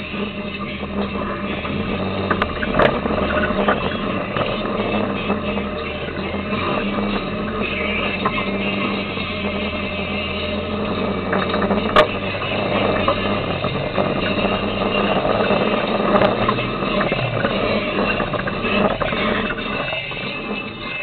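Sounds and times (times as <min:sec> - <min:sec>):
engine running under load: 0:00.0 - 0:21.0.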